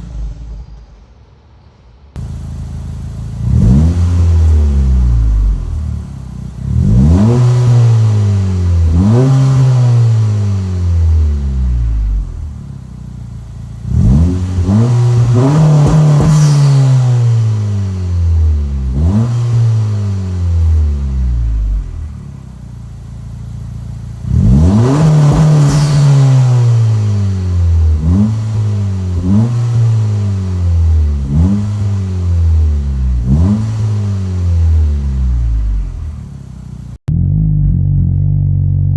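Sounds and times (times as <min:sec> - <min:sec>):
car engine revving: 0:02.2 - 0:37.8.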